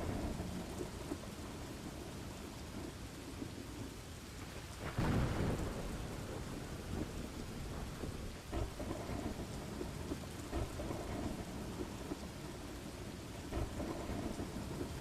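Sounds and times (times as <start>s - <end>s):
thunder clap rumbling: 0.0s - 3.4s, 4.5s - 15.0s
steady rain: 0.0s - 15.0s.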